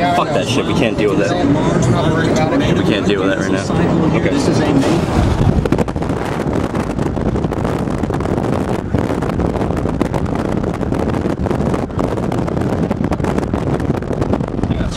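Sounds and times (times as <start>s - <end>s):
car road noise: 0.0s - 14.9s
wind buffeting microphone: 0.0s - 14.9s.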